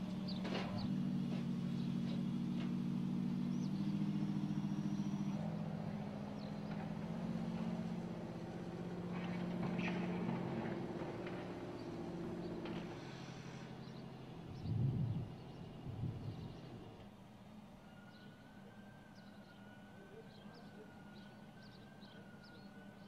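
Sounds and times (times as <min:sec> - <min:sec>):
suv engine running at low revs: 0:00.0 - 0:23.0.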